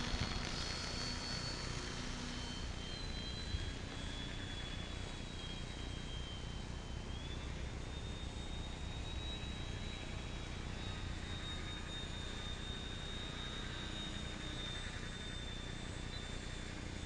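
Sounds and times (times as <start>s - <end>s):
low steady rumble: 0.0s - 17.0s
model airplane motor whine: 0.0s - 17.0s.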